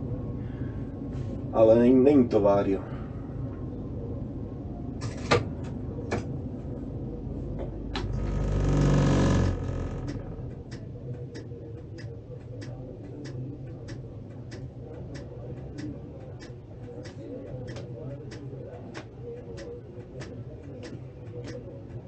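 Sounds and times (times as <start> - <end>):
tram low hum: 0.0 - 22.0.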